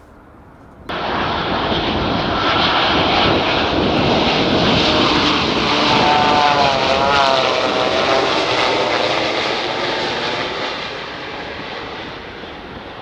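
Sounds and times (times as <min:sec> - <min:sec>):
buzzing turbine whine: 0:00.0 - 0:13.0
jet engine roar overhead: 0:00.0 - 0:13.0.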